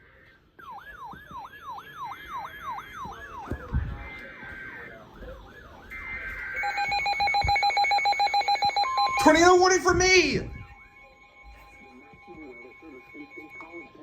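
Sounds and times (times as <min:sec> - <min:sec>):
electronic siren alert tone: 0:00.6 - 0:14.0.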